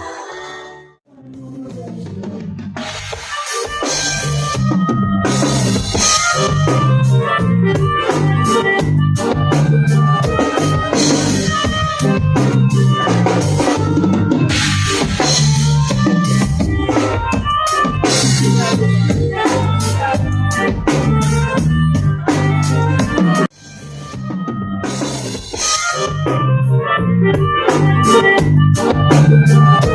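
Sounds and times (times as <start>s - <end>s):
band music with drums and bass: 1.2s - 29.9s.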